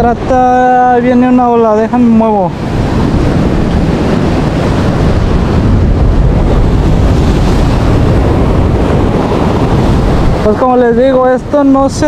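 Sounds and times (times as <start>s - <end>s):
ocean surf washing: 0.0s - 12.0s
wind buffeting microphone: 0.0s - 12.0s.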